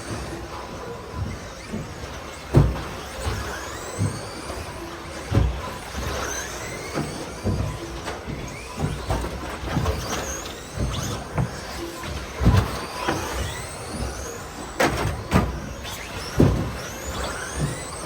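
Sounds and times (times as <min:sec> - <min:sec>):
small motors whining: 0:00.0 - 0:18.0.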